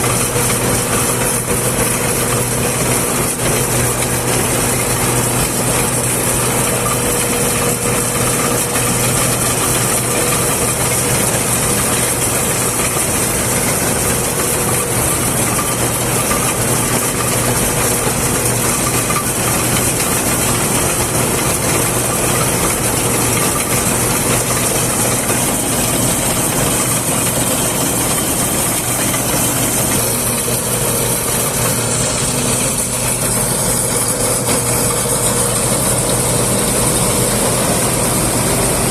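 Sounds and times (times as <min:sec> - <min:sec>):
farm machine engine running: 0:00.0 - 0:38.9.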